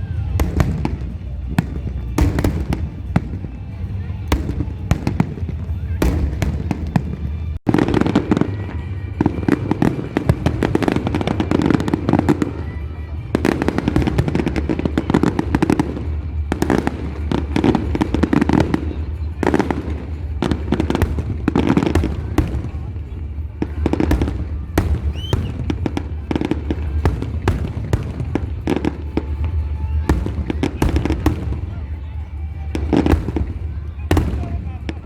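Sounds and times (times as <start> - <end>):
fireworks bursting and crackling: 0.0 - 35.0
music playing: 0.0 - 35.0.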